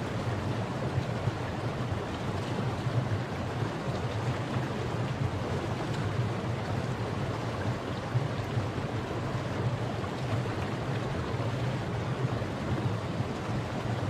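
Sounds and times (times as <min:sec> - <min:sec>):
river flowing over rocks: 0:00.0 - 0:14.0.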